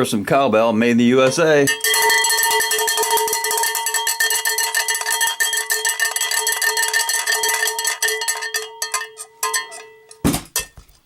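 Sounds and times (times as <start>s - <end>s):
cowbell clanking: 1.7s - 10.8s.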